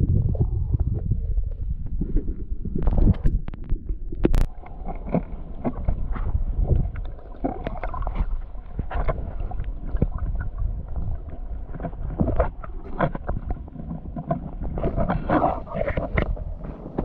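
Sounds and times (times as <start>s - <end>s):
underwater river rushing: 0.0s - 17.0s
underwater clicks and knocks: 0.1s - 17.0s.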